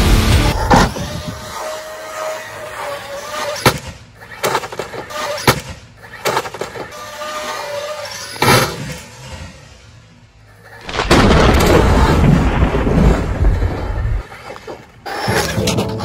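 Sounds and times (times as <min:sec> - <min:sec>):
toy car tumbling on asphalt: 0:00.5 - 0:16.0.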